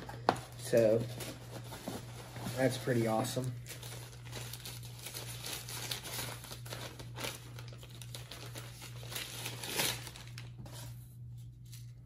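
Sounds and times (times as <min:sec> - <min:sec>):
protective wrapping crinkling: 0:00.6 - 0:10.6.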